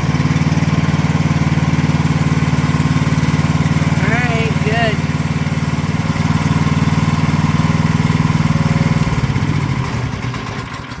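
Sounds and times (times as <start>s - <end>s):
excavator engine idling: 0.0s - 11.0s.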